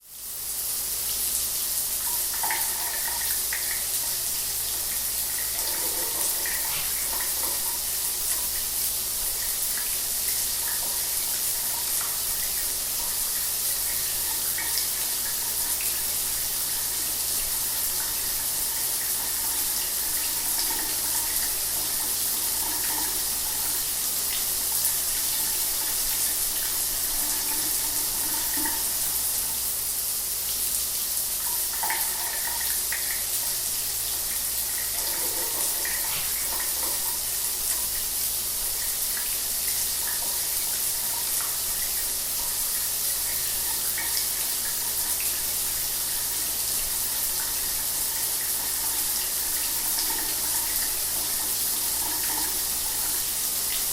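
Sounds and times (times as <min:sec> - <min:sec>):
shower water running: 0:00.0 - 0:53.9.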